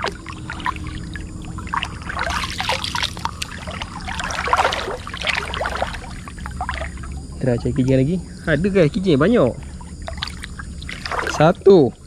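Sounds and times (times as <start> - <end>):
river water splashing: 0.0 - 8.0, 8.7 - 11.7
low steady rumble: 0.0 - 12.0.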